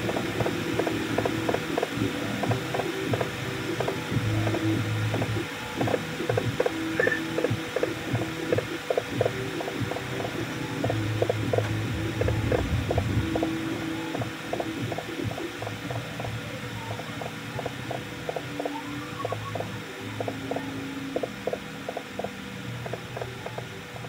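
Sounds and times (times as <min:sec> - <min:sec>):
low humming tones: 0:00.0 - 0:24.0.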